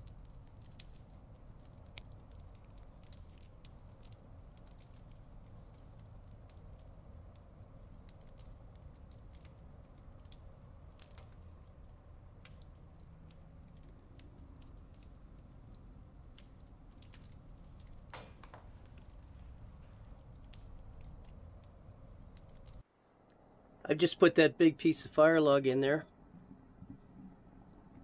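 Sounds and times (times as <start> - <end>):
low rumble of stove: 0.0 - 22.9
wood fire crackling: 0.0 - 22.9.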